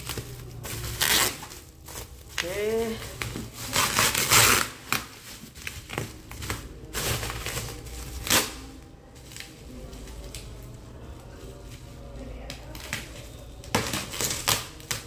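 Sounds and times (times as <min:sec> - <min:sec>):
bubble wrap crinkling and crackling: 0:00.0 - 0:15.0.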